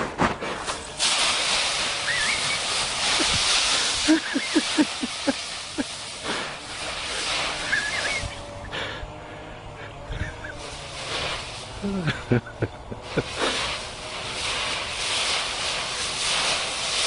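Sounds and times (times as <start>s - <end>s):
dry leaves rustling and crunching: 0.0s - 8.6s, 10.4s - 17.0s.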